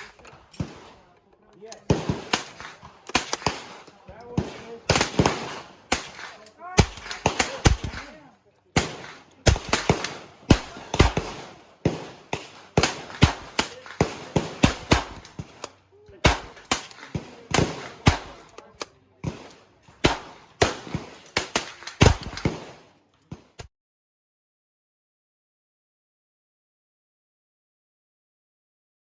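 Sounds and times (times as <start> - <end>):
rifle shots: 0.0 - 23.7.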